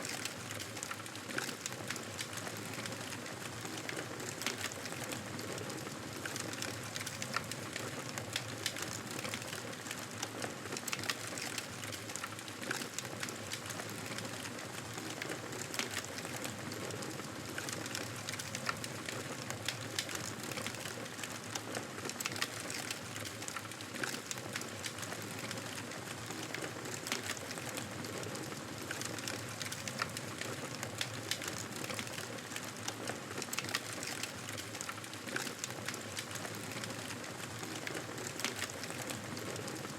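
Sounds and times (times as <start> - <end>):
campfire wood crackling: 0.1 - 39.9.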